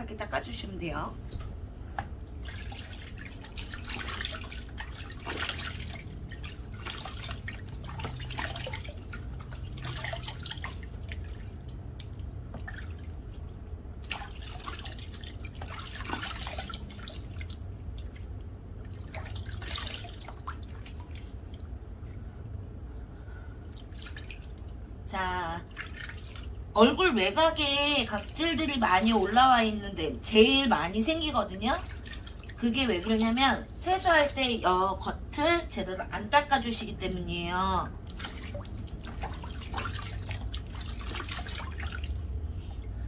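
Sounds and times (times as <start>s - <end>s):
steady low hum: 0.0s - 43.0s
water splashing at a sink: 1.2s - 22.0s, 23.7s - 43.0s.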